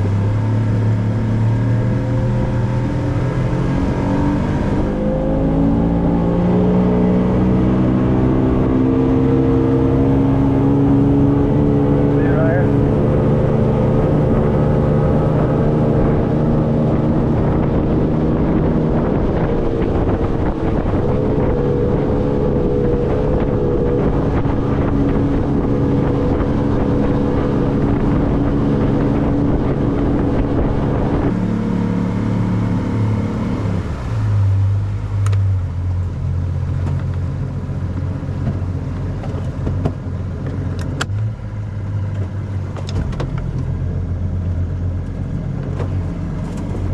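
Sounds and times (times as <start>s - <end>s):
boat engine running: 0.0s - 46.9s
low engine hum: 0.0s - 46.9s.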